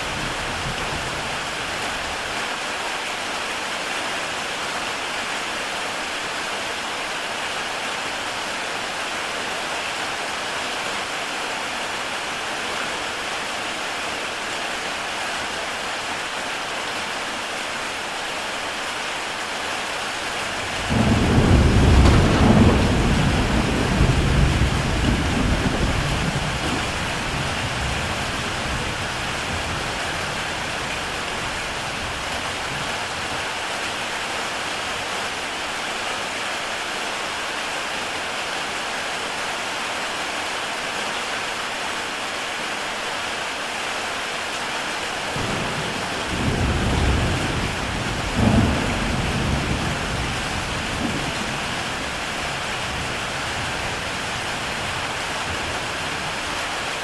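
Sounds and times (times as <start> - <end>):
heavy rain on a tile roof: 0.0 - 57.0.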